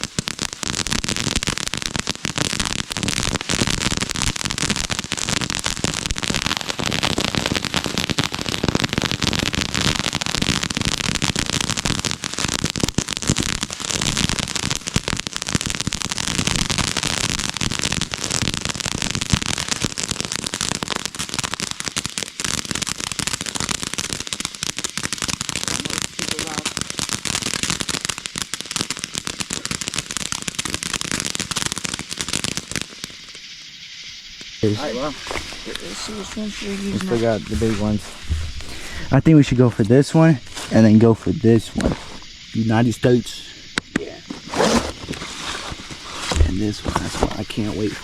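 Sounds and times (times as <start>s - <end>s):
firework crackling: 0.0s - 48.0s.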